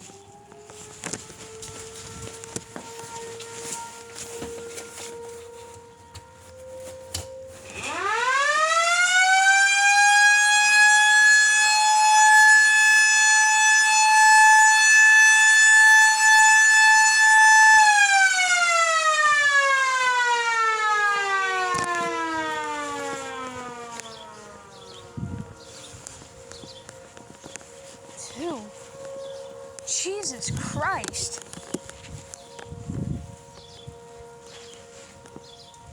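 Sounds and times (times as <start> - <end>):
outdoor warning siren: 0.0 - 35.9.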